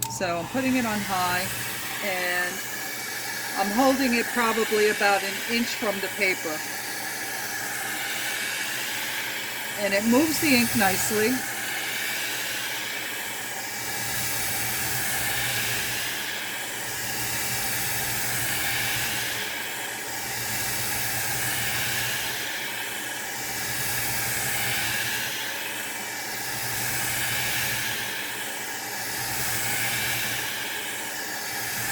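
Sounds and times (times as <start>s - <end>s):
hair dryer running: 0.0s - 31.9s.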